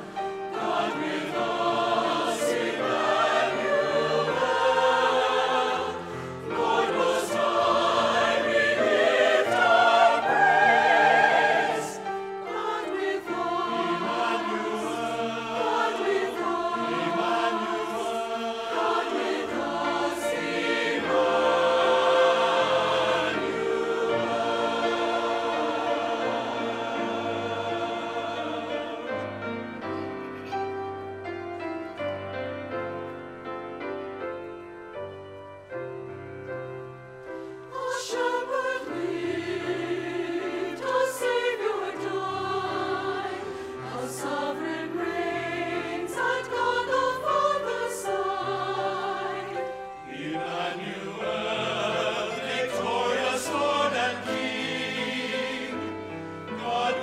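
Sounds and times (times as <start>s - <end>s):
mixed choir singing: 0.0s - 30.2s, 37.4s - 57.0s.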